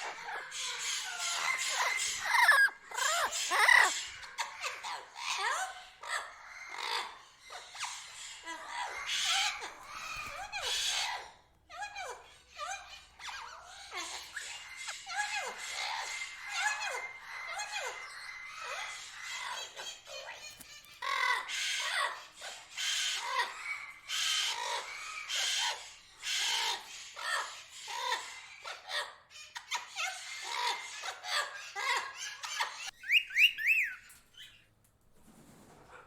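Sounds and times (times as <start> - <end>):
tropical birds chirping: 0.0 - 34.8.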